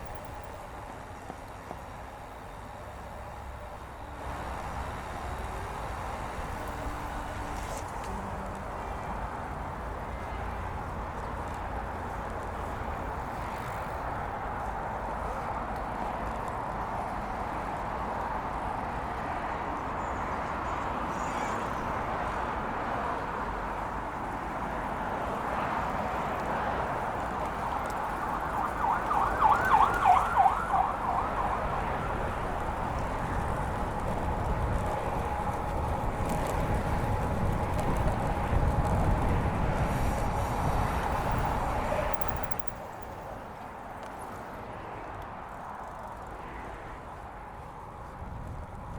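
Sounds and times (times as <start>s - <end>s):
bike tyres rolling on pavement: 0.0s - 48.9s.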